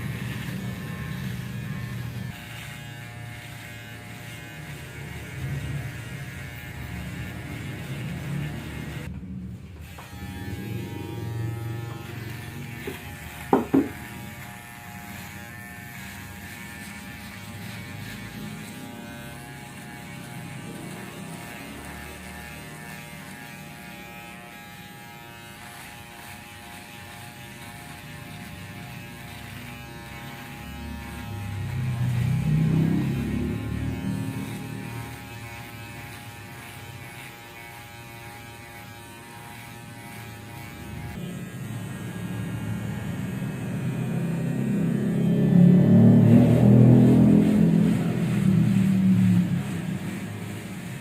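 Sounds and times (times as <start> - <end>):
electric shaver buzzing: 0.0 - 51.0.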